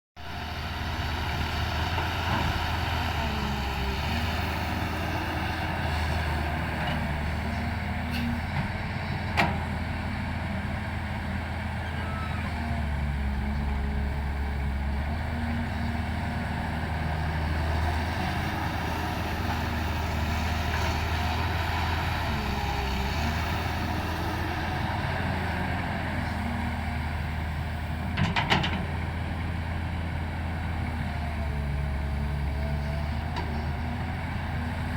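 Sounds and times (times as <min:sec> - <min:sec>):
heavy machinery diesel engine: 0:00.2 - 0:34.9.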